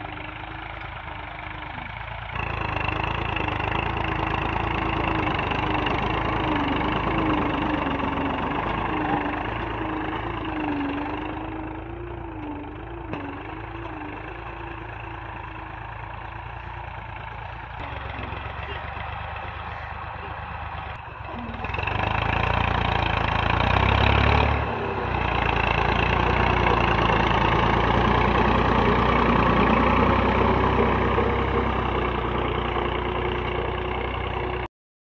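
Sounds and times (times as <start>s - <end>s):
tractor diesel engine under load: 0.0s - 34.7s.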